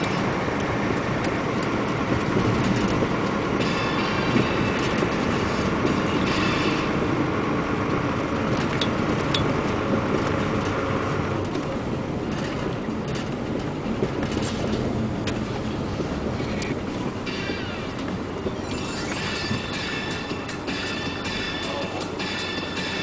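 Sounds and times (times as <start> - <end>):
heavy truck engine and road rumble: 0.0 - 23.0.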